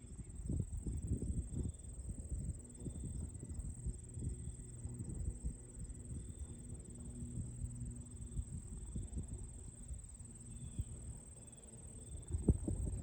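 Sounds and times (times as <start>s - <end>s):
high-pitched insect trill: 0.0s - 13.0s
wind rumble on microphone: 0.0s - 13.0s.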